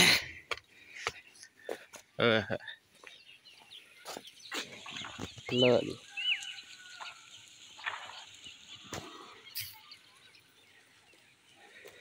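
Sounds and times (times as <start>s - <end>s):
distant bird calls: 0.2s - 12.0s.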